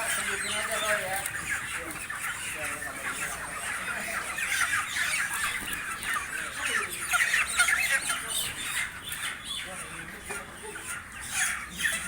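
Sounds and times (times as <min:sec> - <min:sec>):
chickens squawking and clucking: 0:00.0 - 0:12.0.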